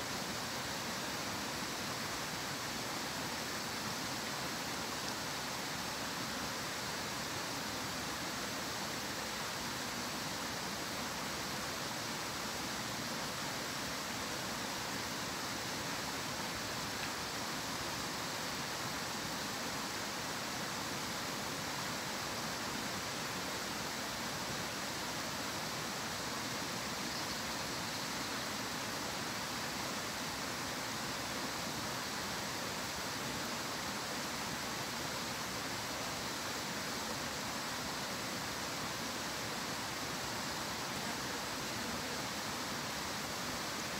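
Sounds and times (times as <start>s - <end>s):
stream running: 0.0s - 43.9s.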